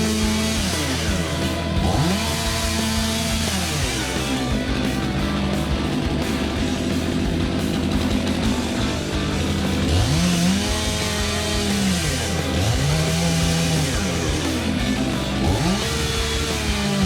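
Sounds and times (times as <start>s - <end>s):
background music: 0.0s - 17.0s
chainsaw revving: 0.0s - 17.0s.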